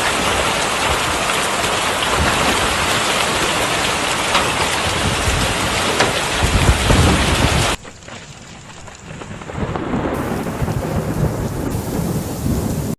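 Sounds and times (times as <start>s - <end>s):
hail and rain hissing: 0.0s - 12.9s
hailstones ticking: 0.0s - 12.9s.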